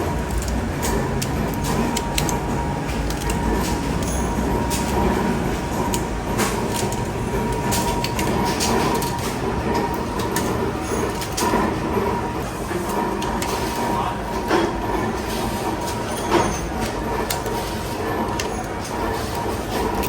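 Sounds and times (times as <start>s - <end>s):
workshop machinery running: 0.0s - 20.0s.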